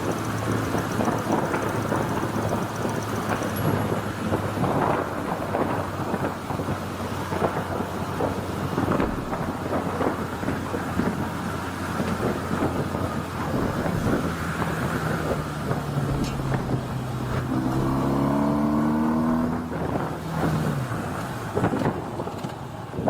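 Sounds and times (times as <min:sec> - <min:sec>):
motorcycle engine running: 0:00.0 - 0:21.7
wind buffeting microphone: 0:00.0 - 0:23.0.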